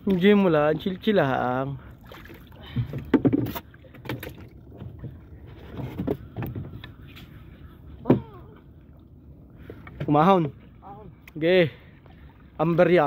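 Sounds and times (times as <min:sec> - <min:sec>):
water sloshing against boat hull: 0:00.0 - 0:13.0.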